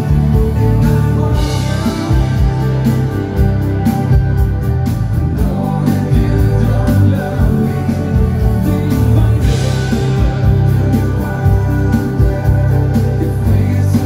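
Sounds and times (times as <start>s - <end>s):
person singing: 0.0s - 4.0s, 5.2s - 14.0s
electric bass: 0.0s - 14.0s
guitar: 0.0s - 14.0s
live band playing: 0.0s - 14.0s.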